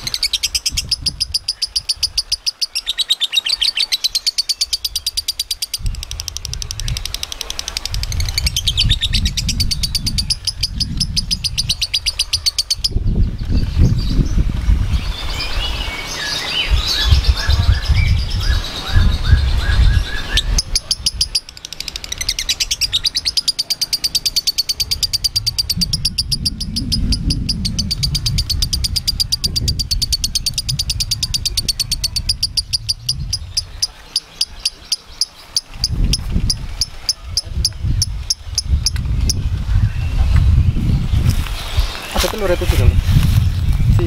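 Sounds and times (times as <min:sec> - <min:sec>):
lovebird chattering trill: 0:00.0 - 0:13.4, 0:16.7 - 0:40.2.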